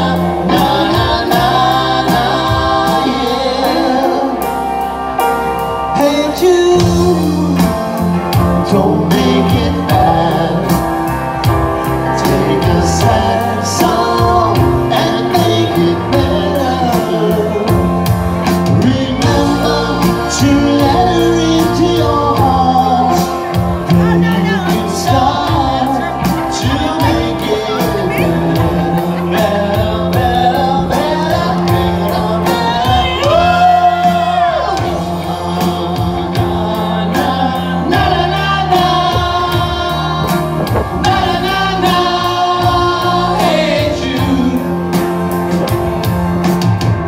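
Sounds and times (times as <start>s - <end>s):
lead vocal singing: 0.0s - 46.9s
live rock band playing: 0.0s - 47.0s.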